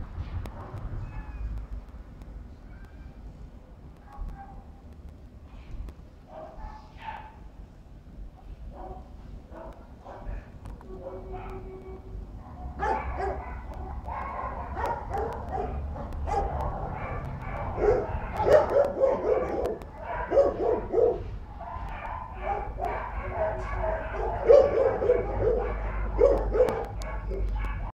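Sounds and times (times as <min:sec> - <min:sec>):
dogs barking: 0:00.4 - 0:01.5, 0:04.0 - 0:04.7, 0:06.2 - 0:07.5, 0:08.4 - 0:27.9.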